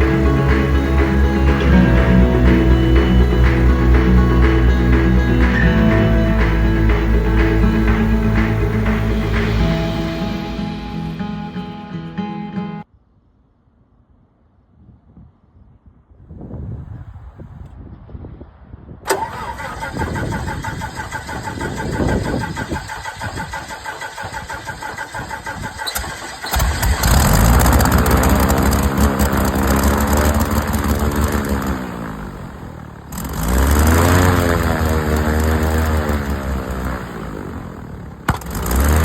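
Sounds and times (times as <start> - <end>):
aircraft engine cranking and running: 0.0 - 11.9, 19.1 - 39.0.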